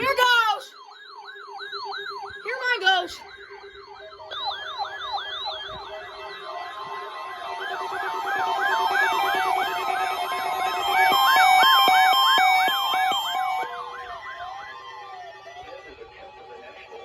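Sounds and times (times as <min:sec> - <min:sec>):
warbling weather alert alarms: 0:00.0 - 0:17.0.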